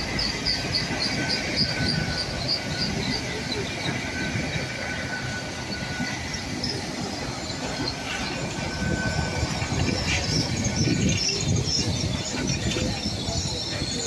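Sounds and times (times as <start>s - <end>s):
high squeal: 0.0s - 14.0s
train wheels rumbling on rails: 0.0s - 14.0s.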